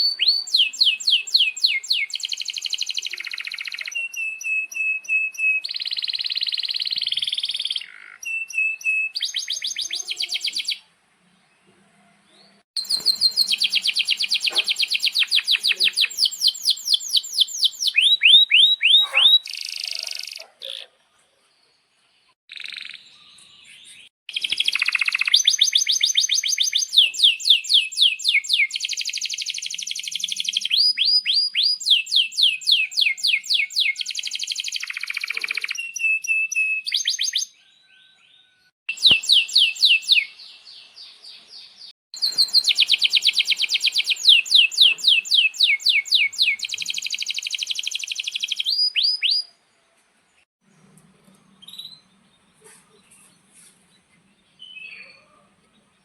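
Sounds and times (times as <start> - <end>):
canary singing trills: 0.0 - 10.8, 12.4 - 21.0, 22.5 - 49.5.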